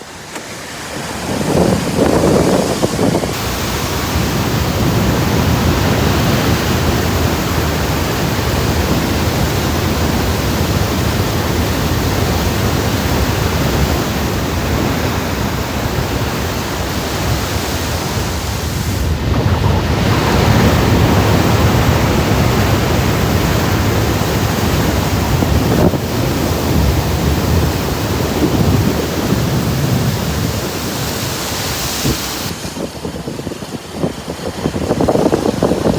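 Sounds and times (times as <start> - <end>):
water splashing around car: 0.0 - 33.4.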